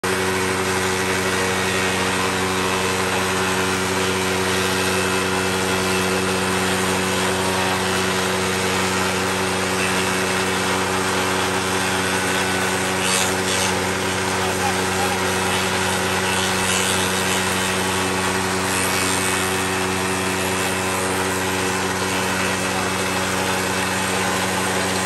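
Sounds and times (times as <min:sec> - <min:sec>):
cutter head cutting wood: 0:00.0 - 0:25.0
motor humming: 0:00.0 - 0:25.0.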